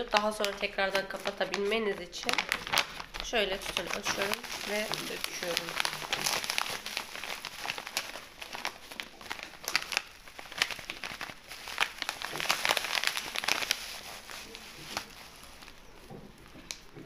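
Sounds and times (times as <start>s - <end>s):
plastic pouch crinkling: 0.0s - 17.0s
sharp crackles: 0.0s - 17.0s.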